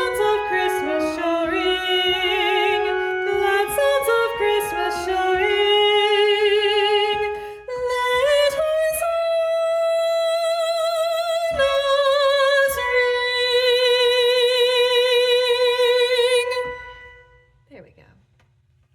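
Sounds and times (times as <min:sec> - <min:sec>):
soprano voice singing: 0:00.0 - 0:17.2.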